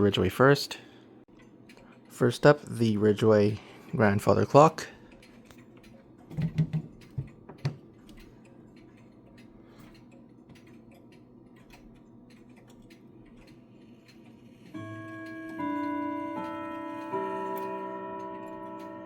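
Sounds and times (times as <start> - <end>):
grandfather clock ticking: 1.3 - 6.3, 6.9 - 19.0.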